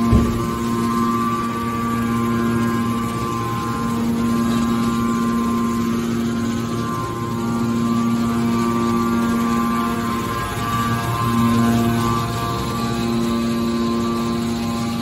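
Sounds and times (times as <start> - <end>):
hydraulic baler motor humming: 0.0 - 15.0.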